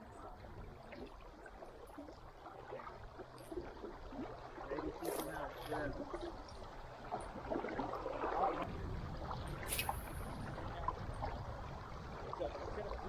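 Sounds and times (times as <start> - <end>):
water moving around a kayak: 0.0 - 13.0.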